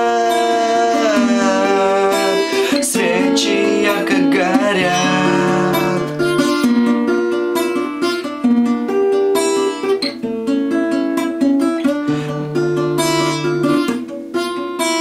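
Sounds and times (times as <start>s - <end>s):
acoustic guitar fingerpicking: 0.0s - 15.0s.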